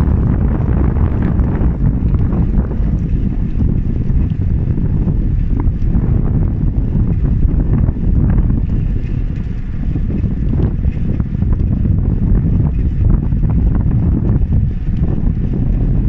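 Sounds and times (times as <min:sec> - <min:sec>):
small clicks and rattles: 0:00.0 - 0:16.0
wind buffeting microphone: 0:00.0 - 0:16.0.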